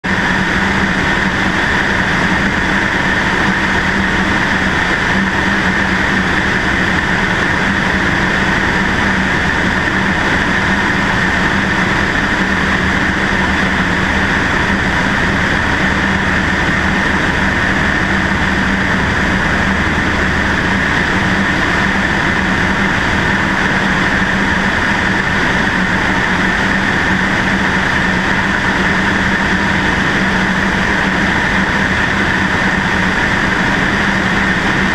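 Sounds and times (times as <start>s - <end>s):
airplane engine and propeller drone: 0.0s - 34.9s.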